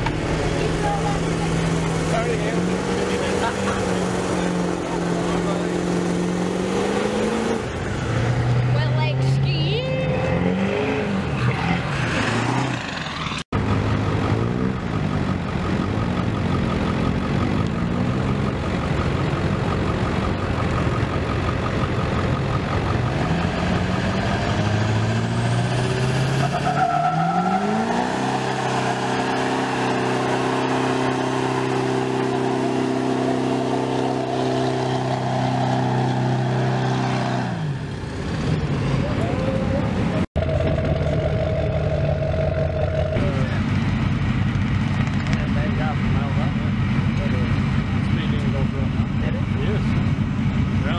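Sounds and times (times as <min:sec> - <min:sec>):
diesel engine at high revs: 0:00.0 - 0:50.9
diesel trucks revving: 0:00.0 - 0:50.9.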